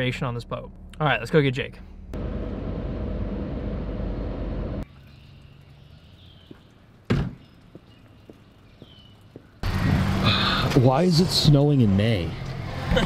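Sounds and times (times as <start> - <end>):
car cabin road and engine noise: 0.0 - 7.3, 8.8 - 13.0
quiet outdoor background: 0.0 - 13.0.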